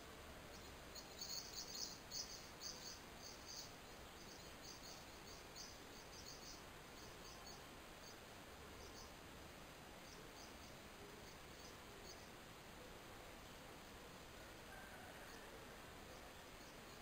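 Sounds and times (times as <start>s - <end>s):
faint rapid bird chirps: 0.0s - 17.0s.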